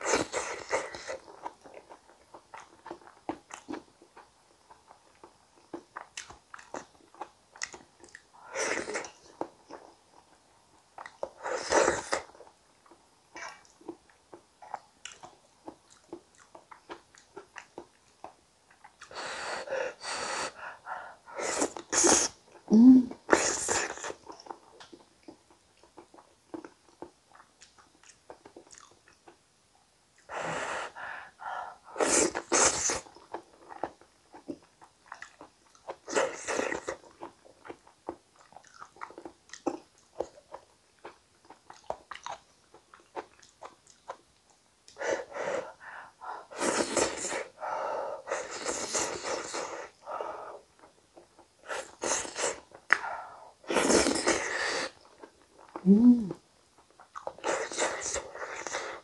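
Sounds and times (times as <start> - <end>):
close-miked chewing: 0.0 - 19.6, 20.5 - 29.4, 30.1 - 45.4, 46.4 - 59.0.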